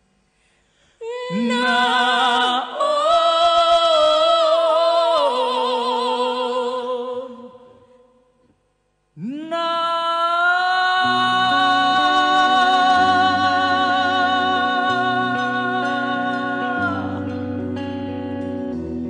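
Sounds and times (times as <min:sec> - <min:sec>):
woman and man singing duet: 0:01.0 - 0:07.8, 0:09.2 - 0:18.0.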